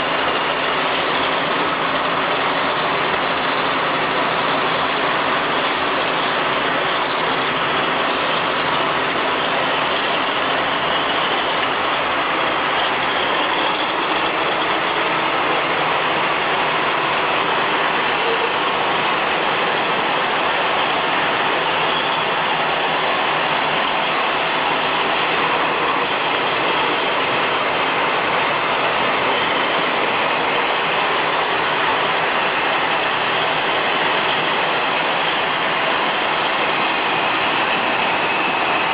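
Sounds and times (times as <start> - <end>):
bottle washing machine running: 0.0 - 38.9.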